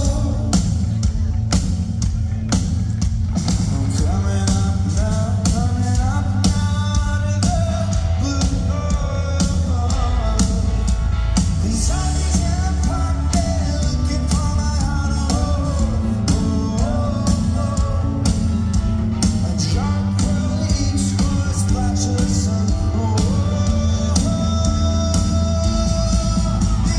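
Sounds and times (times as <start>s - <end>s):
person singing: 0.0s - 1.3s, 3.5s - 26.9s
rock band playing live: 0.0s - 26.9s.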